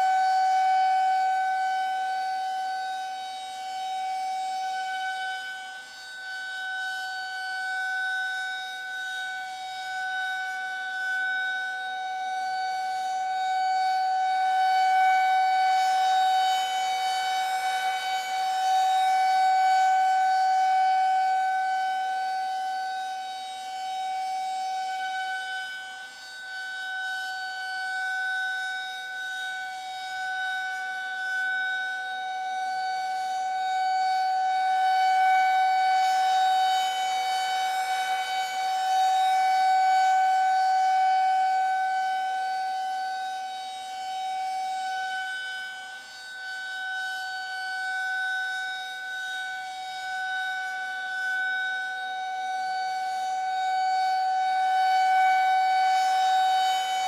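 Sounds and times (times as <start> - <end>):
air-raid siren steady tone: 0.0 - 57.0.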